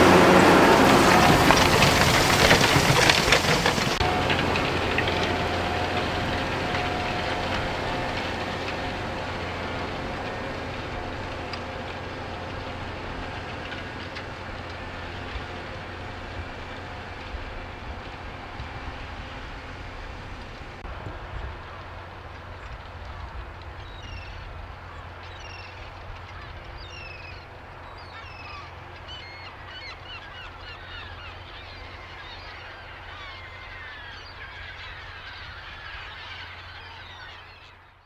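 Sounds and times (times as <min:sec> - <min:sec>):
gulls calling: 0:00.0 - 0:20.8, 0:21.6 - 0:38.0
tractor engine hum: 0:00.0 - 0:38.0.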